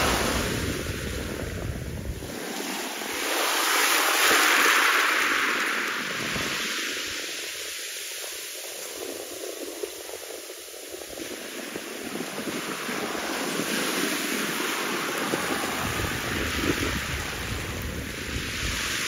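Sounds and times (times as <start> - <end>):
wind buffeting microphone: 0.0 - 7.2, 8.7 - 19.0
water lapping at shore: 0.0 - 19.0.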